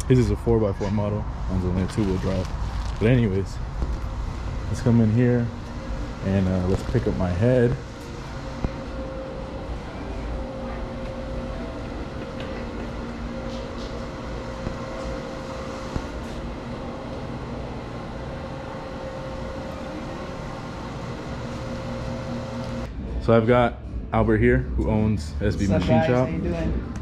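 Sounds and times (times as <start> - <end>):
machinery humming: 0.0 - 27.0.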